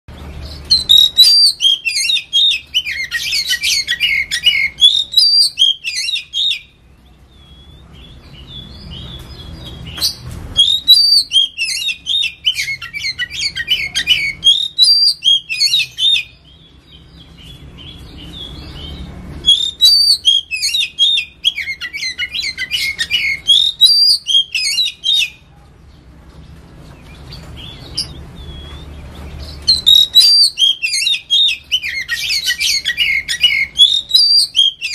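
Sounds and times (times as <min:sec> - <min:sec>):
bird singing whistles: 0:00.4 - 0:16.7, 0:17.8 - 0:25.4, 0:27.6 - 0:34.9.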